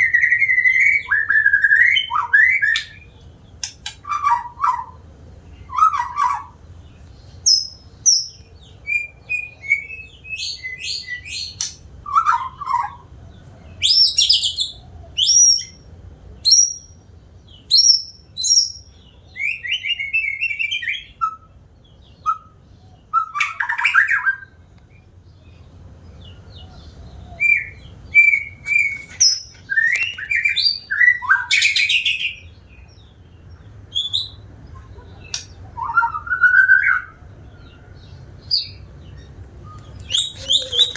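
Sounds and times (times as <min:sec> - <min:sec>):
songbird whistling and trilling: 0:00.0 - 0:06.6, 0:07.4 - 0:13.1, 0:13.7 - 0:24.6, 0:26.2 - 0:40.9.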